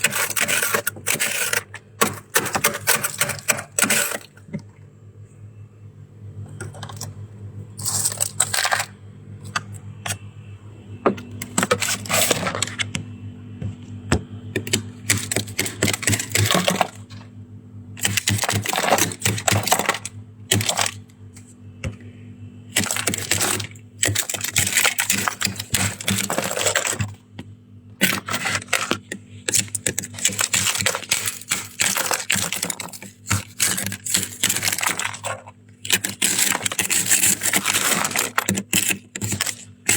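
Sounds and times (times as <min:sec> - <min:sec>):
crunching and chewing ice: 0:00.0 - 0:04.9, 0:06.5 - 0:10.3, 0:11.2 - 0:17.4, 0:18.0 - 0:39.9.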